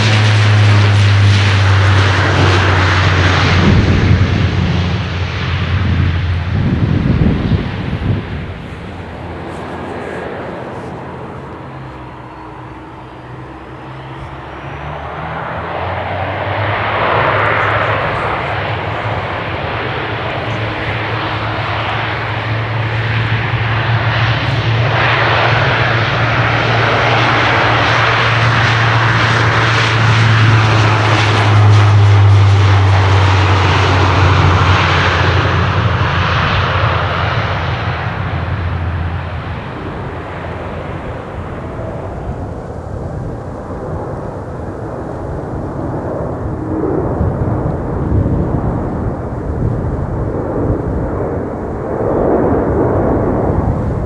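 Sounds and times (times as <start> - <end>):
airliner engines passing: 0.0 - 54.0.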